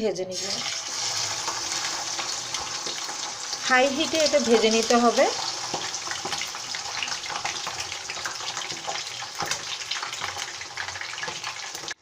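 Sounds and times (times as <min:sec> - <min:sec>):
chicken frying in hot oil: 0:00.3 - 0:12.0.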